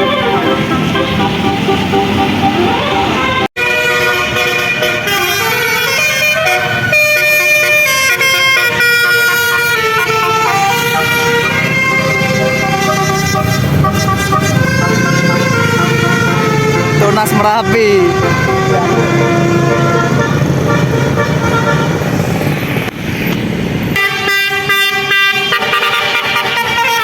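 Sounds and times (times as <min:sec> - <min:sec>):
musical bus air horn tune: 0:00.0 - 0:22.2, 0:23.9 - 0:27.0.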